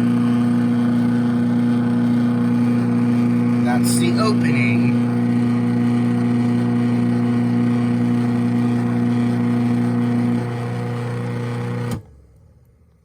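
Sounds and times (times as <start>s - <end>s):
garage door opener motor hum: 0.0s - 12.1s.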